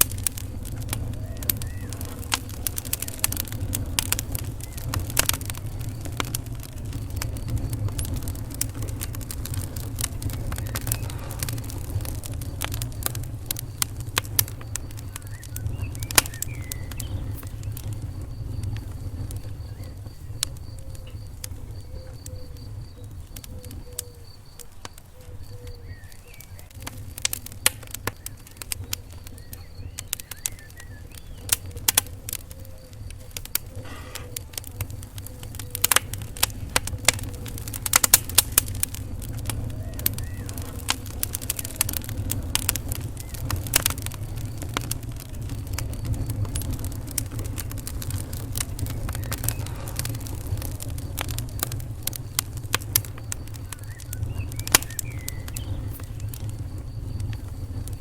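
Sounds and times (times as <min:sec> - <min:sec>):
fire pops and snaps: 0:00.0 - 0:58.0
low rumble of flames: 0:00.0 - 0:58.0
wood fire crackling: 0:00.0 - 0:58.0.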